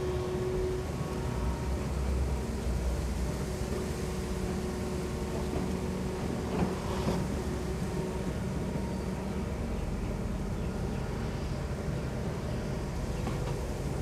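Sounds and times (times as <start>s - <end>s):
diesel excavator engine: 0.0s - 14.0s.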